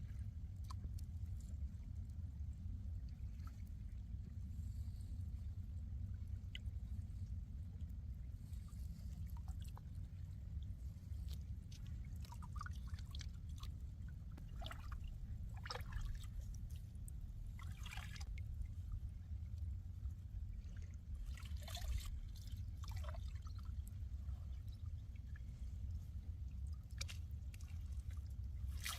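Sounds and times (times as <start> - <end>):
steady low rumble: 0.0 - 28.9
water splashing and trickling: 0.0 - 28.9.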